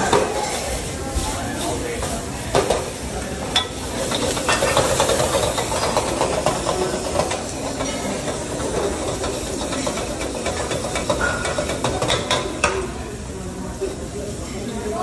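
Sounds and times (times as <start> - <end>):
utensils clanking against wok: 0.0 - 13.2
vegetables sizzling in a wok: 0.0 - 15.0.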